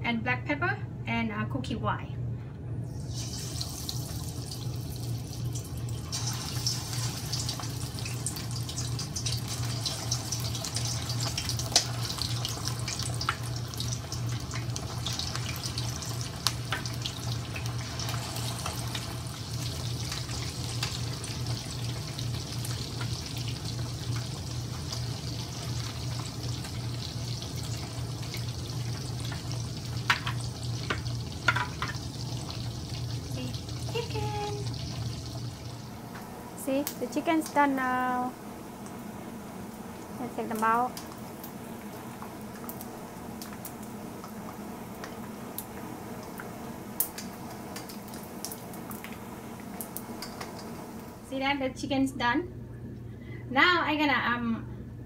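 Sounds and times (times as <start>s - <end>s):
steady low hum: 0.0s - 55.0s
chicken wings sizzling in oil: 2.9s - 51.2s.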